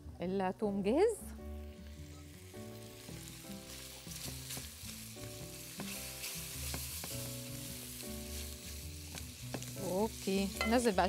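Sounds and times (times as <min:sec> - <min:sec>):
soft background music: 0:00.0 - 0:11.0
garlic sizzling in oil: 0:01.1 - 0:11.0.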